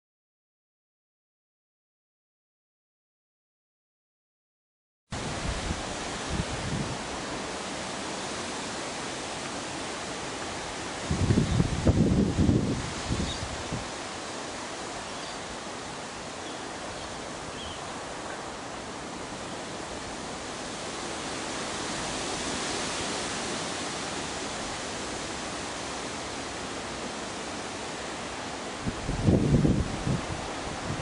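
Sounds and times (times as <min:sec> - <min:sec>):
wind rushing through trees: 0:05.1 - 0:31.0.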